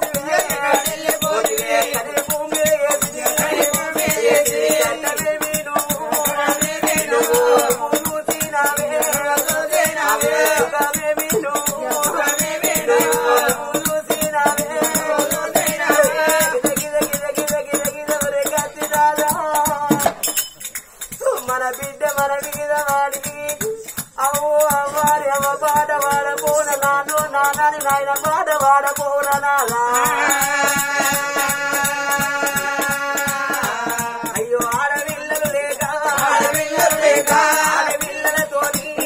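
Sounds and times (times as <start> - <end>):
jingling metal percussion: 0.0 - 39.0.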